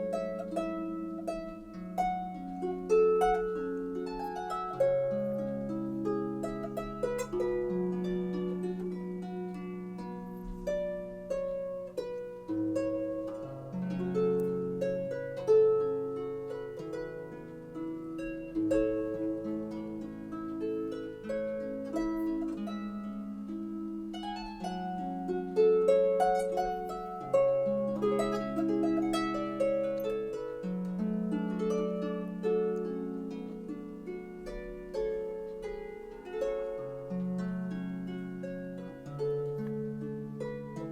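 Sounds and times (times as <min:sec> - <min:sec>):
solo harp music: 0:00.0 - 0:40.9.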